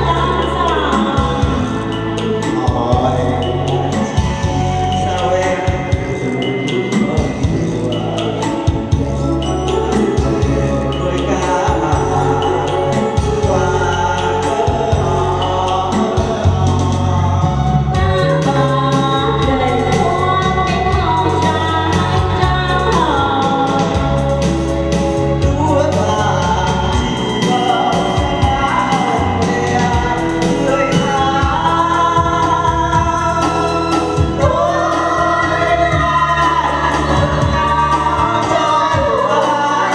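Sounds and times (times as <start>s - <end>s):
amplified backing track: 0.0s - 39.9s
man singing: 0.0s - 39.9s
woman singing: 0.0s - 39.9s.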